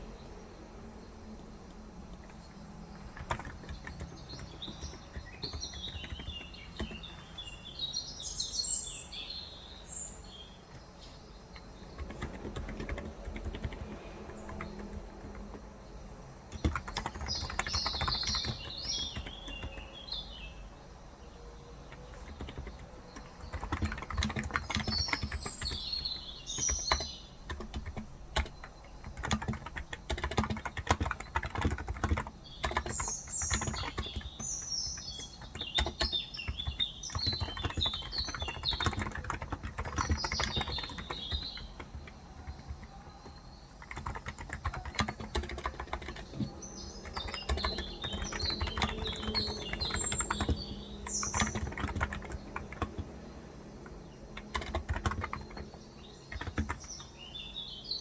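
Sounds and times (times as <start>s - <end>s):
birds twittering: 0.0s - 58.0s
keyboard typing: 1.3s - 7.8s, 10.2s - 20.2s, 21.6s - 57.6s.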